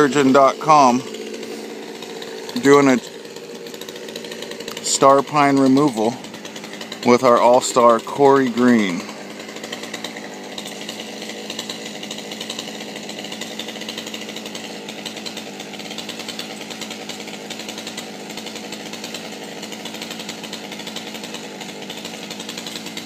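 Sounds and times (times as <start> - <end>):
chainsaw running: 0.0 - 23.0.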